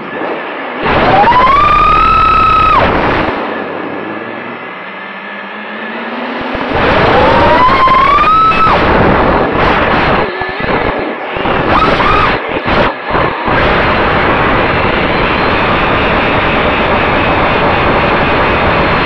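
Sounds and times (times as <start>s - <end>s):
drone motor whine: 0.0s - 19.0s.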